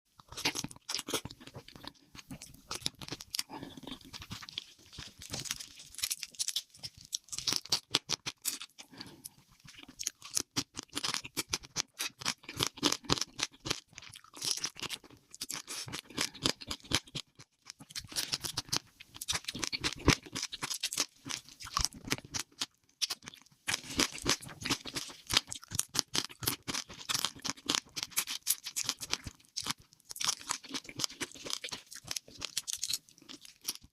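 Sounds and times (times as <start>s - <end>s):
crunchy chewing: 0.2s - 33.9s.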